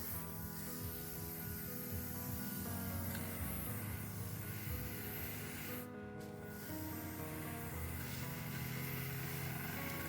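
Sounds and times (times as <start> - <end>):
background music of sustained notes: 0.0 - 10.0.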